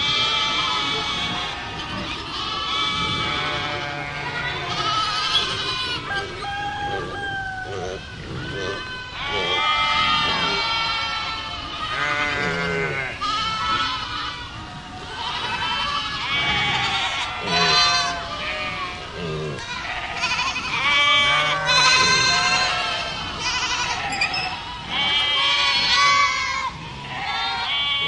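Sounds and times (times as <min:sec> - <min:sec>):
goats bleating: 0:00.0 - 0:28.0.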